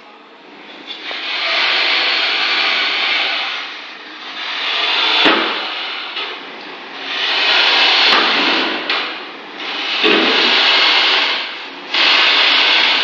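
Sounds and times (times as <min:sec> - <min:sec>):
wheel bearing grinding: 0:00.7 - 0:13.0.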